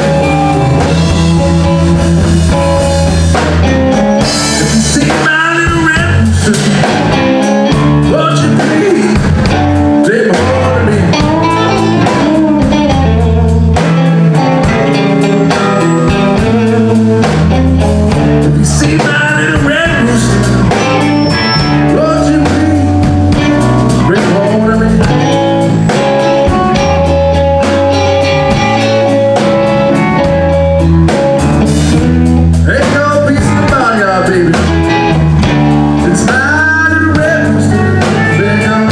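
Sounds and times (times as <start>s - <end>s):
man singing: 0.0s - 26.9s, 32.6s - 35.2s, 36.0s - 38.9s
drums: 0.0s - 38.9s
electric bass: 0.0s - 38.9s
electric guitar: 0.0s - 38.9s.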